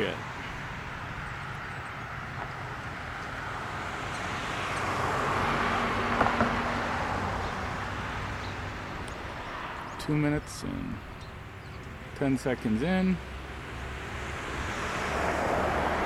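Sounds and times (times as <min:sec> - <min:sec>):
car passing: 0:00.0 - 0:16.0.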